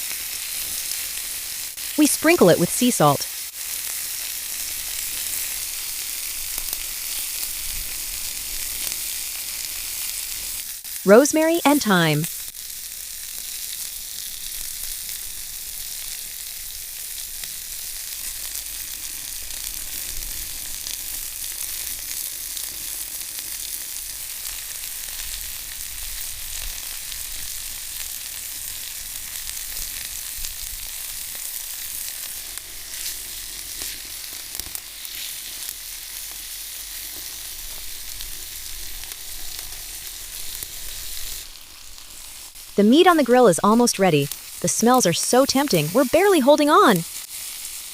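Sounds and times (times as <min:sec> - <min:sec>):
meat sizzling on a grill: 0:00.0 - 0:01.9, 0:03.3 - 0:11.0, 0:12.4 - 0:42.8, 0:47.1 - 0:47.9.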